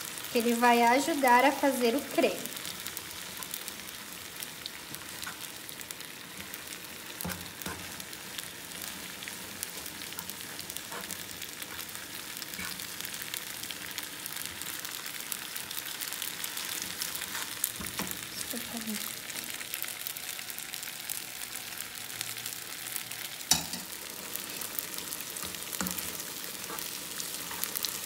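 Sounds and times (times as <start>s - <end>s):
pasta sizzling in frying pan: 0.0s - 28.0s.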